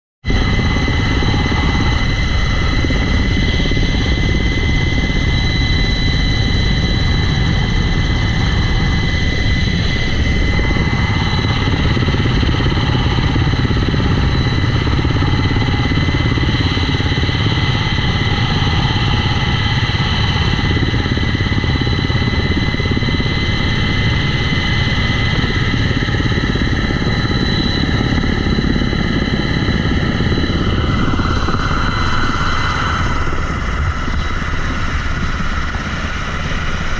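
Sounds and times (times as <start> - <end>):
helicopter rotor and engine rumble: 0.2 - 36.9
high-pitched whine: 0.2 - 36.9.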